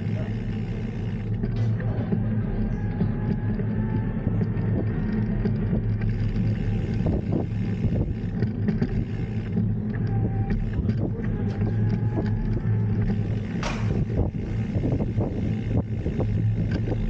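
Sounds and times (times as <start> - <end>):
bike riding road rumble: 0.0 - 17.0
faint clicks and knocks: 0.0 - 17.0
wind noise on microphone: 1.3 - 17.0.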